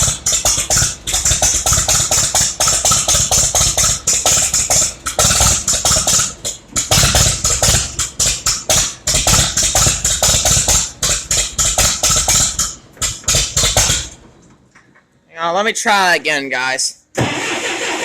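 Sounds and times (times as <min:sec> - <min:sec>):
tractor engine cranking: 0:00.0 - 0:15.0, 0:17.1 - 0:18.0.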